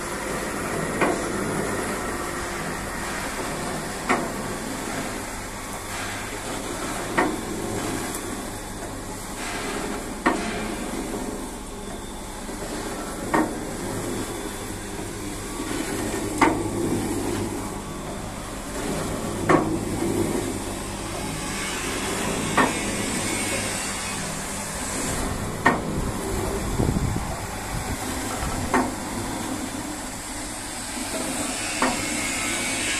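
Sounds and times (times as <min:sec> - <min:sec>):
log splitter motor humming: 0:00.0 - 0:32.9.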